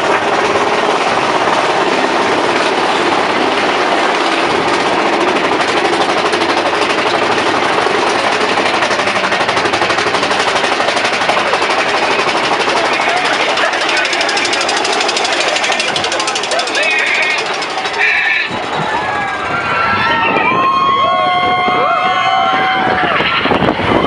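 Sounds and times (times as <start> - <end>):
roller coaster cars rattling: 0.0 - 24.0.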